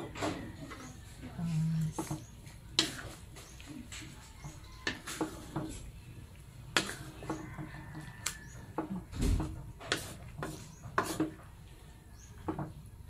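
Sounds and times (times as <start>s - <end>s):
wooden spatula scraping a wok: 0.0s - 12.8s.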